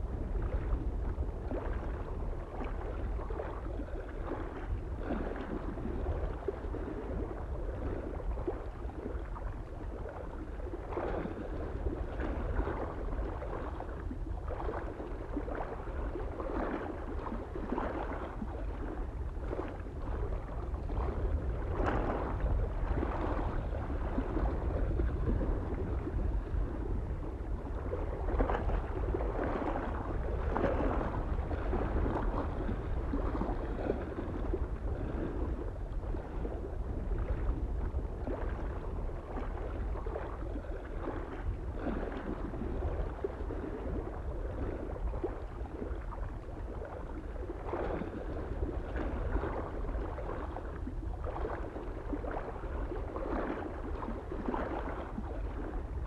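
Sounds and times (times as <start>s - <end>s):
low rumble of wind: 0.0s - 56.0s
small waves lapping on shore: 0.0s - 56.0s.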